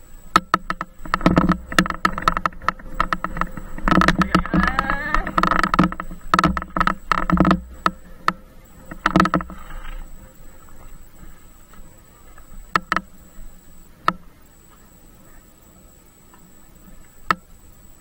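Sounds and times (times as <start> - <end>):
mountain bike rattling over rough ground: 0.0 - 15.0.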